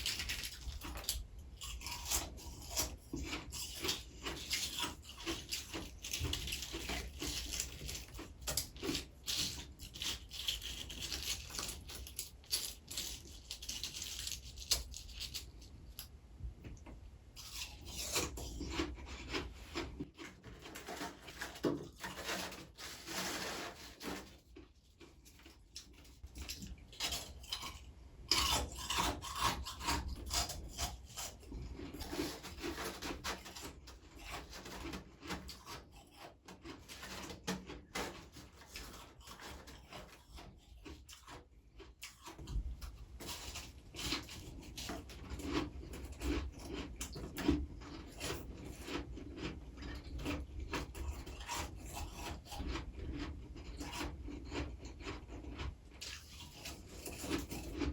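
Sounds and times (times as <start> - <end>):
freezer frost being scraped: 0.0 - 15.6, 17.4 - 57.9.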